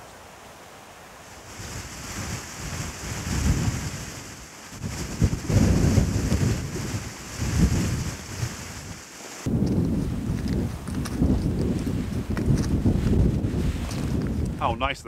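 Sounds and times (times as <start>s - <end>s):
wind buffeting microphone: 1.4s - 15.0s.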